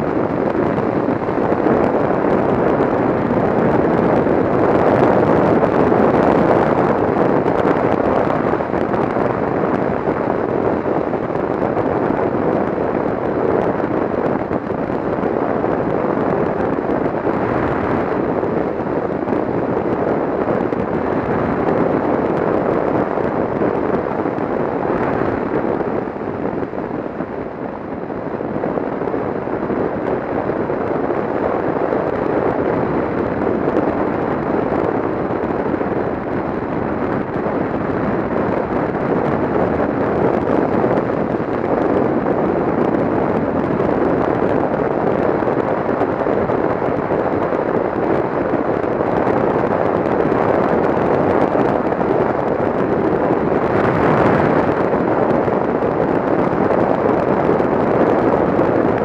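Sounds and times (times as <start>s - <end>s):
motorcycle road roar: 0.0s - 59.0s
wind buffeting microphone: 0.0s - 59.0s
wind rush: 0.0s - 59.0s.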